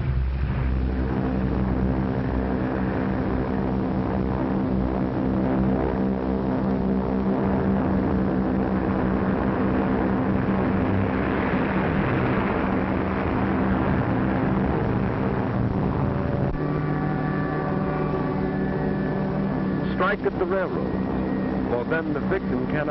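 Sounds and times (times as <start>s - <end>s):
propeller aircraft engines droning: 0.0s - 22.9s
rushing noise: 0.0s - 22.9s.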